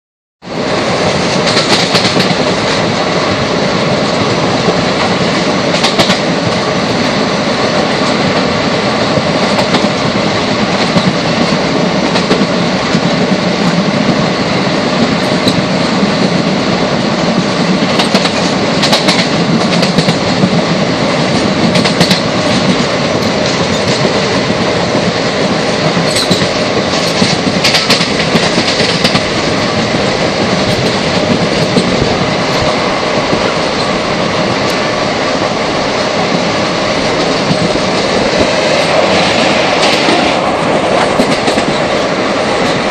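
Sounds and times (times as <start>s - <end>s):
train rumble: 0.4s - 42.9s.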